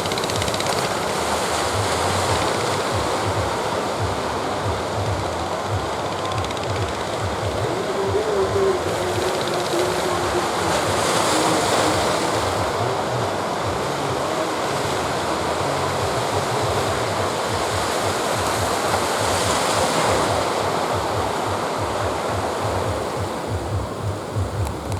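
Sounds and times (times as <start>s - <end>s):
sea surf washing: 0.0s - 24.9s
wind buffeting microphone: 0.0s - 24.9s.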